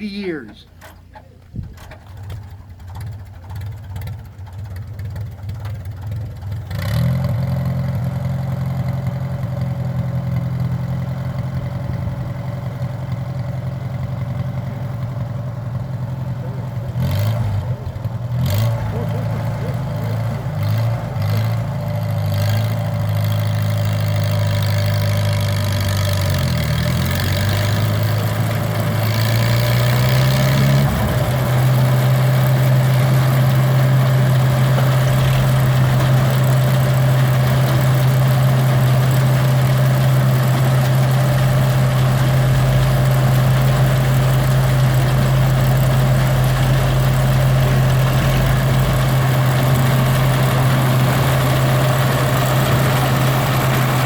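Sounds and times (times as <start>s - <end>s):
hay baler engine humming: 0.0s - 54.0s.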